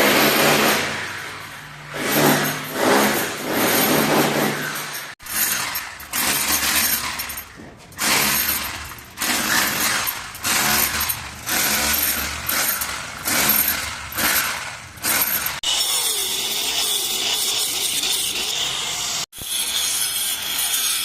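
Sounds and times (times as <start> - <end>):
power tool cutting masonry: 0.0 - 7.4, 8.0 - 21.0.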